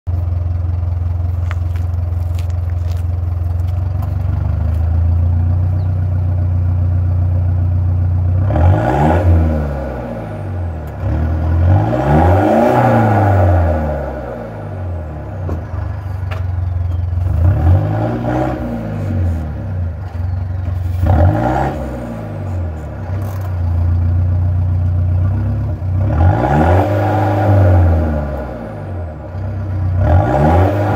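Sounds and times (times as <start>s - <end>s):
diesel engine idling and revving: 0.1s - 30.9s.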